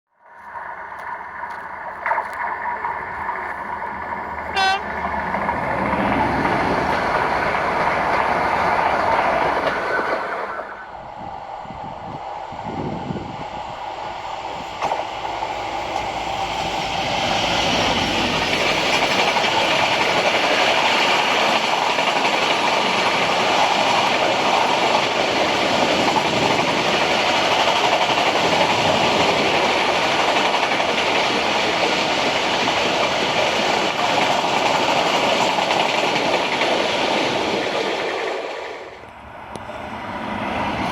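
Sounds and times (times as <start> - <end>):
train wheels rolling on rails: 0.2 - 40.9.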